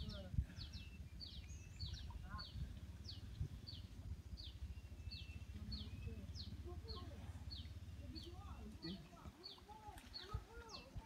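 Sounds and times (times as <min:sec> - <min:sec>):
low steady rumble: 0:00.0 - 0:11.0
small bird chirping: 0:00.0 - 0:11.0.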